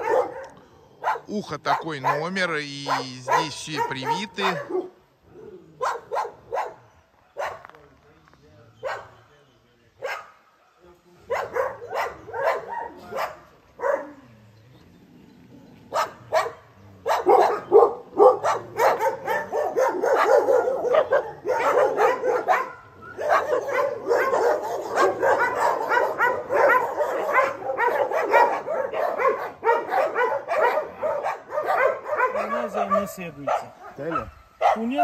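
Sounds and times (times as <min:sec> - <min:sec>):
many dogs barking: 0:00.0 - 0:07.8, 0:08.8 - 0:35.0.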